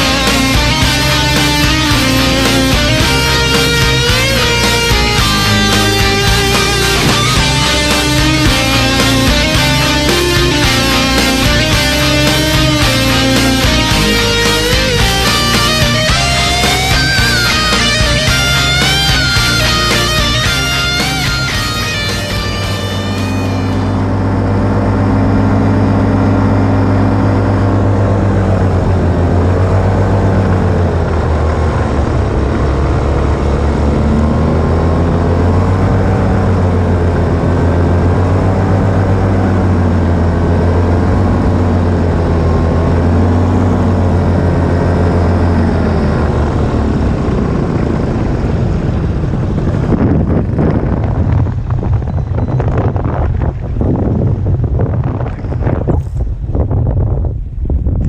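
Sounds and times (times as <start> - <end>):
gusty wind on microphone: 0.0 - 58.0
paramotor engine and propeller: 0.0 - 58.0.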